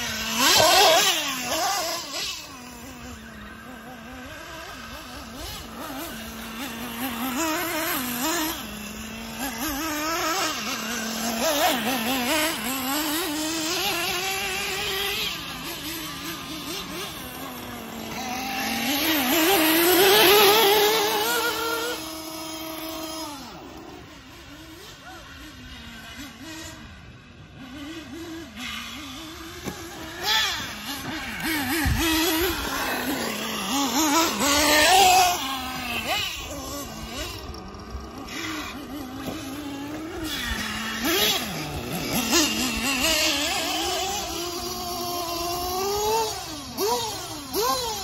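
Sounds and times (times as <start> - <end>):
rc buggy motors revving: 0.0 - 48.0.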